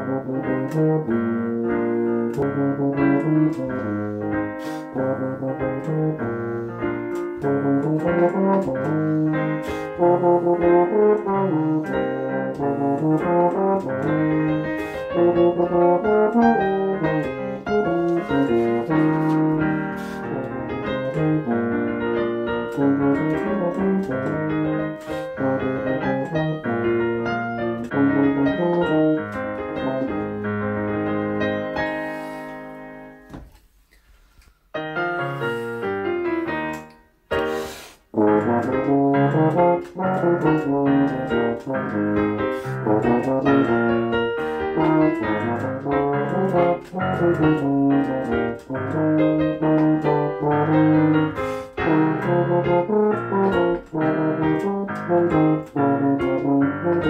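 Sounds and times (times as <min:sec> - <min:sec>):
tuba playing a melody: 0:00.0 - 0:33.3, 0:34.8 - 0:57.0
piano chords: 0:00.0 - 0:33.5, 0:34.8 - 0:57.0.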